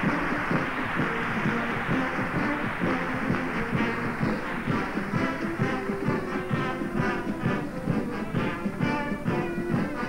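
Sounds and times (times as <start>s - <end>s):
brass band playing: 0.0s - 10.0s
quick steady drum beat: 0.0s - 10.0s.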